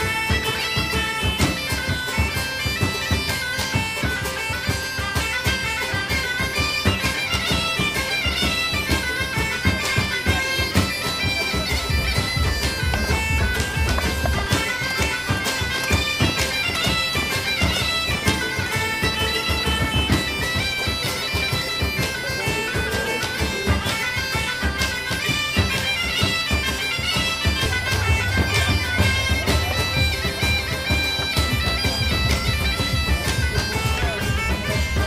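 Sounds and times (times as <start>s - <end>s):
bagpipe melody: 0.0s - 35.0s
drum beat: 0.0s - 35.0s.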